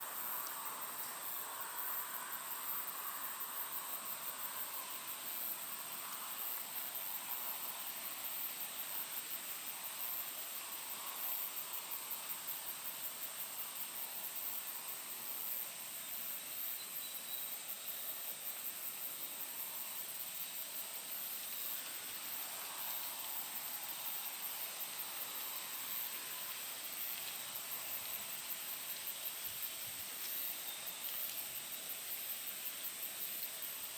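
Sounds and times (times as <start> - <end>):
breeze rustling leaves: 0.0 - 33.9
insects trilling: 0.0 - 33.9.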